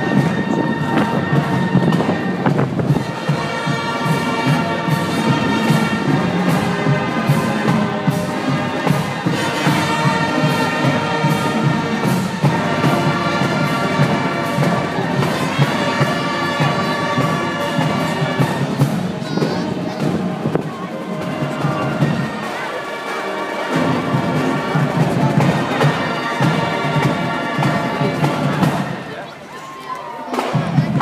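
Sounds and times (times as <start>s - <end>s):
drums beating: 0.0s - 31.0s
marching band brass playing: 0.0s - 31.0s.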